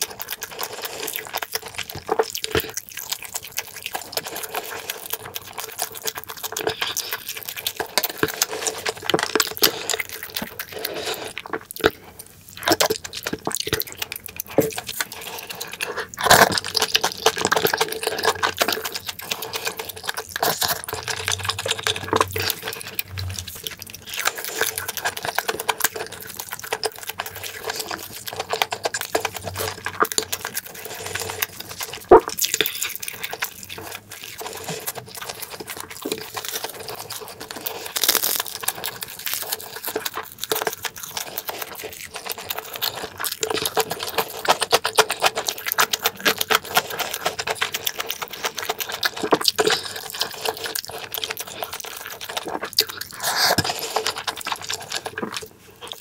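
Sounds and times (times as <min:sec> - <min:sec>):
wet chewing and mouth sounds: 0:00.0 - 0:56.0.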